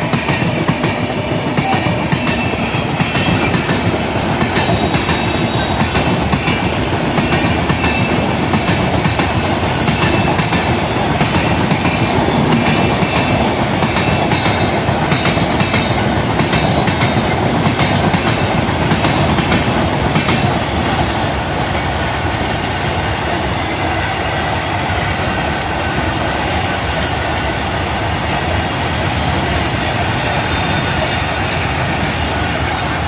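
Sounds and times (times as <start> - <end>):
clickety-clack over rail joints: 0.0 - 33.0
train wheels rumbling on rails: 0.0 - 33.0.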